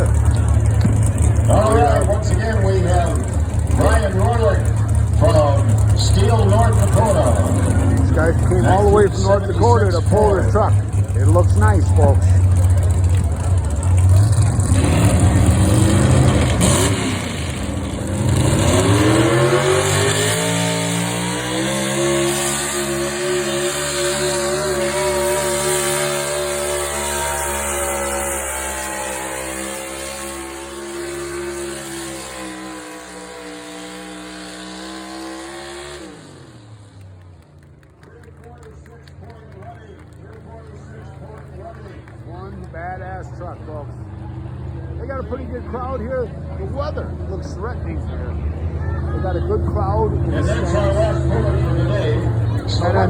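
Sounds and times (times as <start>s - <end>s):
truck engine running hard: 0.0s - 53.0s.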